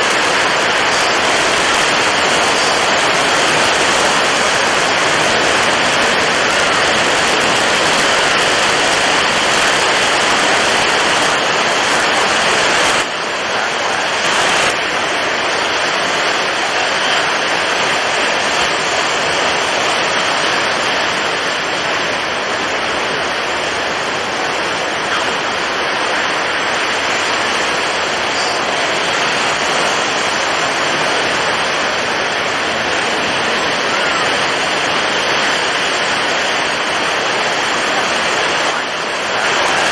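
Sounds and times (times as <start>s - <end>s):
strong wind: 0.0s - 39.9s
waves breaking: 0.0s - 39.9s.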